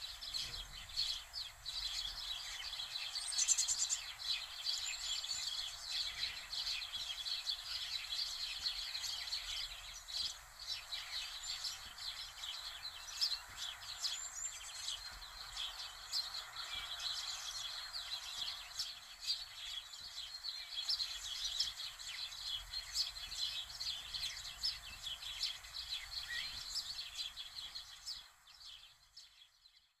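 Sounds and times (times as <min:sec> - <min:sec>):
birds chirping in chorus: 0:00.0 - 0:30.0
soft steady hiss: 0:00.0 - 0:30.0.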